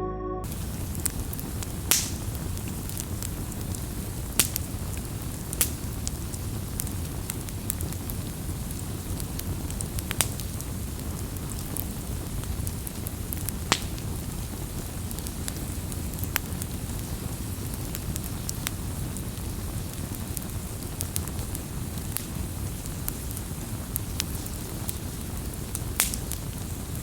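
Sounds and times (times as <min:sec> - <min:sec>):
low rumble of burning wood: 0:00.5 - 0:27.0
campfire pops and snaps: 0:01.0 - 0:27.0.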